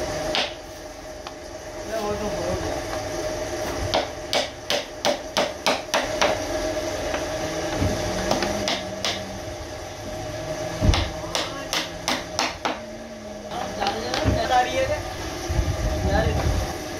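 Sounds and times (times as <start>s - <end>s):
steady hum: 0.0s - 16.9s.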